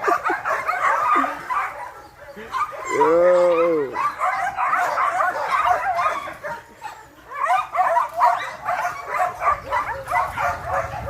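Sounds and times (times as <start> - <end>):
dogs yipping and whimpering: 0.0 - 11.0.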